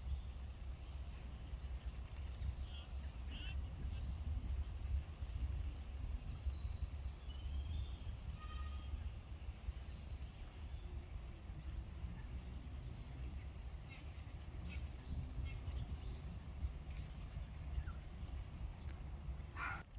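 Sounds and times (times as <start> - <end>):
sparrow chirps: 0.0 - 19.8
low background rumble: 0.0 - 19.9.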